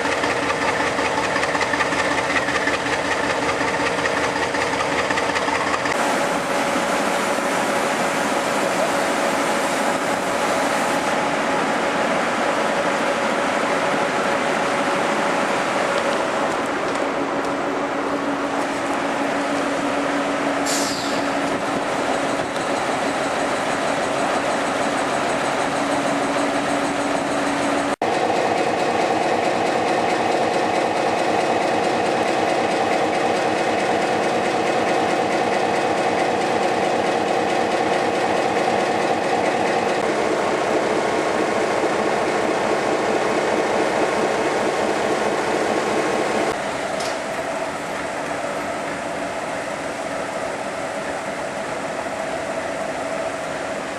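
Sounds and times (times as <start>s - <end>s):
locomotive diesel engine drone: 0.0s - 53.9s.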